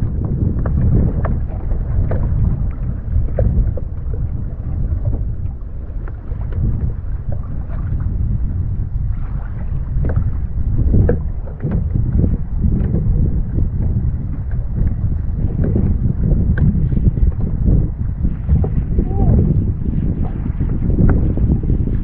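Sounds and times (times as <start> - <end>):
water splashing against hull: 0.0 - 22.0
wind rumbling on microphone: 0.0 - 22.0.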